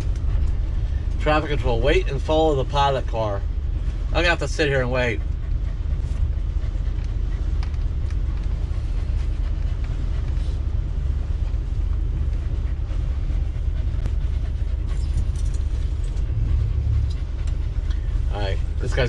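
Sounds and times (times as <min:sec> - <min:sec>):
engine idling: 0:00.0 - 0:19.0
wind buffeting vehicle: 0:00.0 - 0:19.0.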